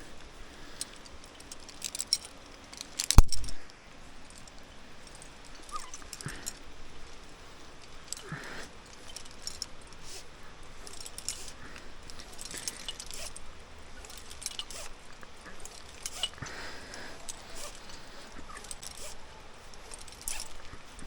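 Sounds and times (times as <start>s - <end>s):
metal climbing gear clinking: 0.0s - 21.0s.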